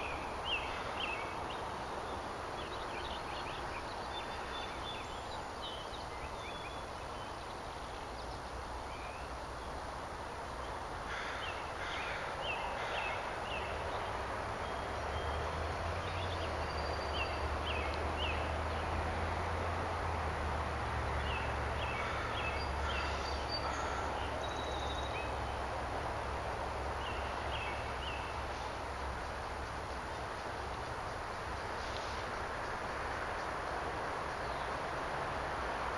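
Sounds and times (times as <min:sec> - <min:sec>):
birds chirping: 0:00.0 - 0:09.9, 0:10.6 - 0:19.1, 0:21.1 - 0:35.0
steady outdoor hiss: 0:00.0 - 0:35.9.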